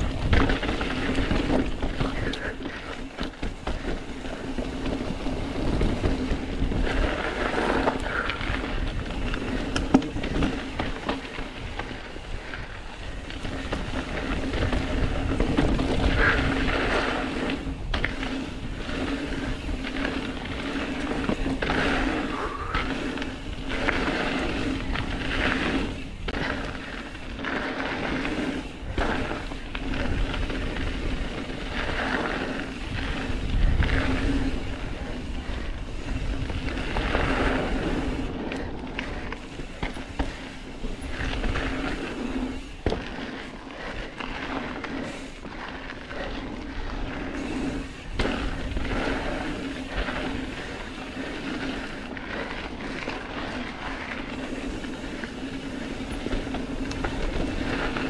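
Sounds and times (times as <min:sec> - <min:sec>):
wind buffeting microphone: 0:00.0 - 0:27.4, 0:28.2 - 0:58.0
bike rattling and knocking: 0:00.0 - 0:58.0
bike tyres on dirt and rock: 0:00.0 - 0:58.0.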